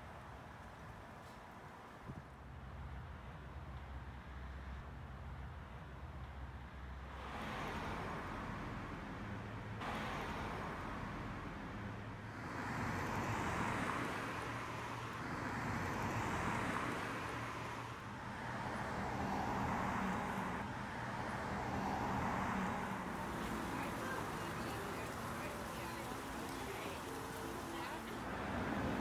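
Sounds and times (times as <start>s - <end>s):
cars passing: 2.8s - 29.0s.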